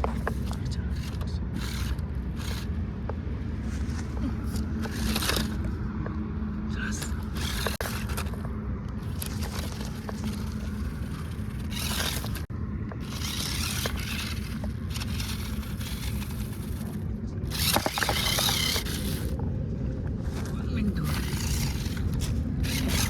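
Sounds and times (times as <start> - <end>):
rc car wheels churning mud: 0.0 - 2.8, 3.7 - 5.7, 6.8 - 8.4, 9.0 - 19.4, 20.3 - 23.0
steady low rumble: 0.0 - 23.0.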